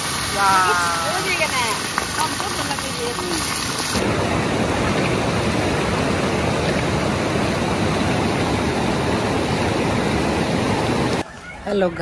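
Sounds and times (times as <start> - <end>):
fast-flowing river water: 0.0 - 11.2.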